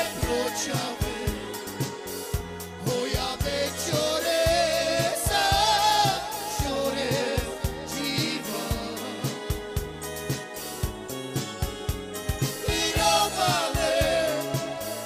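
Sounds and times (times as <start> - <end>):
person singing: 0.0 - 10.7, 12.5 - 15.0
drum beat and bass: 0.0 - 15.0.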